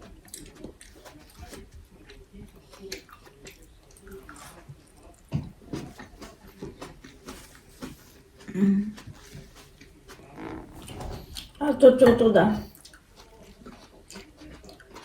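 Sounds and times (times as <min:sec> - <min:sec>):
person chewing wet mouth sounds: 0:00.0 - 0:11.6, 0:12.7 - 0:15.0.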